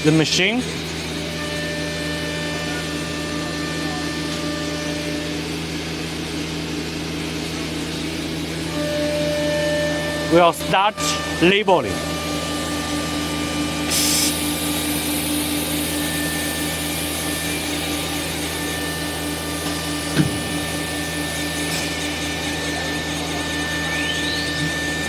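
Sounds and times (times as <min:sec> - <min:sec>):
machine hum with motor whine: 0:00.0 - 0:25.0.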